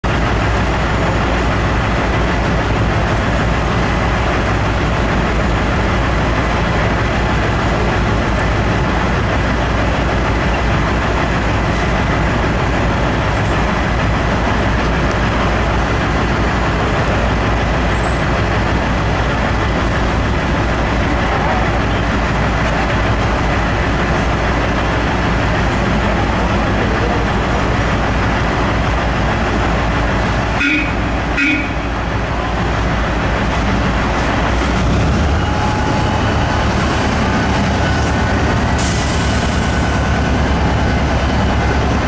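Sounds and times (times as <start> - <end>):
truck engine deep rumble: 0.0 - 42.0.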